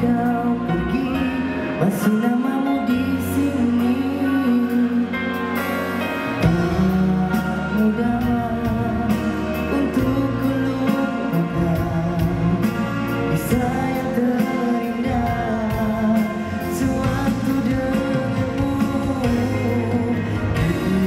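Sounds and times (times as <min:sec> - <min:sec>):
amplified music accompaniment: 0:00.0 - 0:21.0
man singing into microphone: 0:00.0 - 0:21.0.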